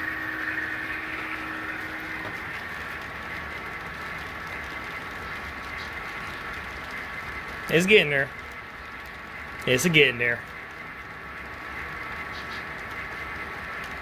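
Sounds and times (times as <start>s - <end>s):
model train whirring: 0.0s - 14.0s.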